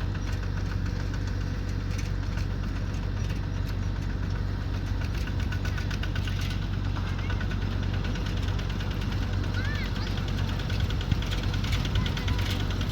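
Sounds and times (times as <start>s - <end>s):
combine harvester engine hum: 0.0s - 12.9s.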